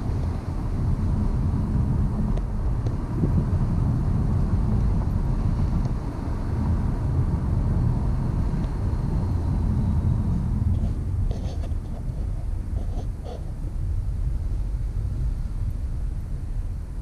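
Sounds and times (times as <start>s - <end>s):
tire and road noise in car cabin: 0.0s - 17.0s.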